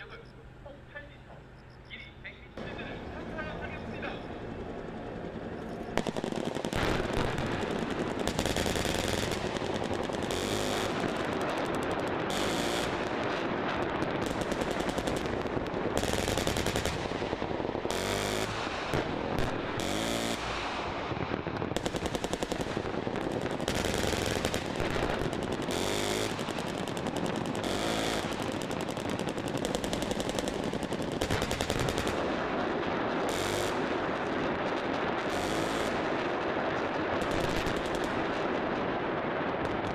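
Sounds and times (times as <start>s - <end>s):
massed machine-gun fire: 2.6s - 21.1s, 21.7s - 38.6s.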